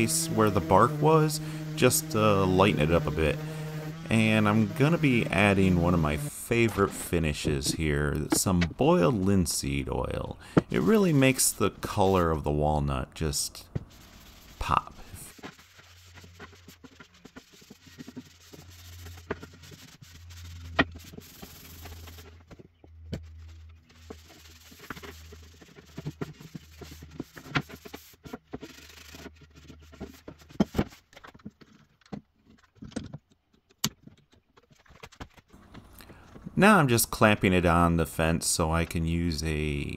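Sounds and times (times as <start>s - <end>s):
rubbing and scraping on wood: 0.0s - 39.1s.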